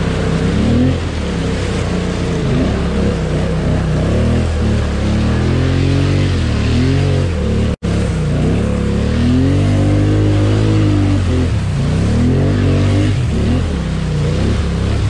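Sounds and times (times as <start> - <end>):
atv engine revving: 0.0 - 15.0
mud and water splashing: 0.0 - 15.0.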